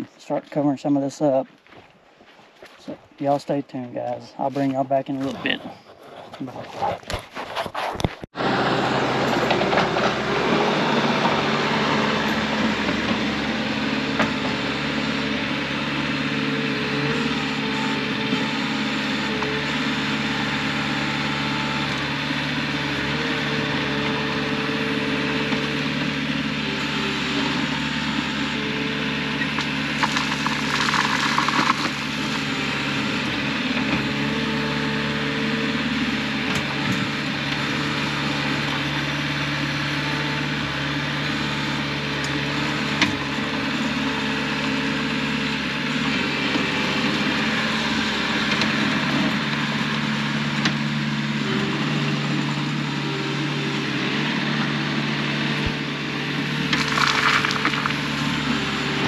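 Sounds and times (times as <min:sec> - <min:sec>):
engine idling: 0:08.4 - 0:59.0.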